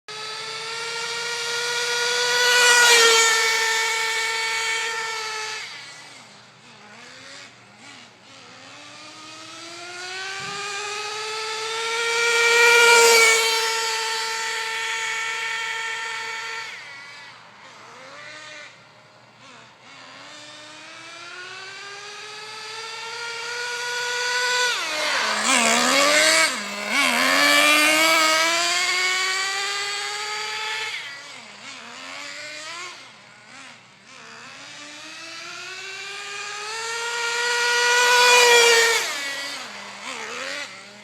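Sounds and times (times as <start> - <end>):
small rc car engine: 0.1 - 41.0.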